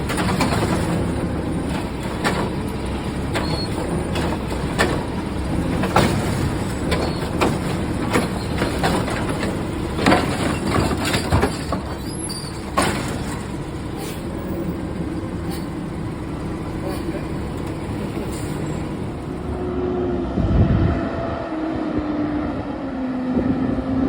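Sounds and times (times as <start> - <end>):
sharp metallic clanks and knocks: 0.0 - 19.6
garbage truck diesel engine running: 0.0 - 19.8.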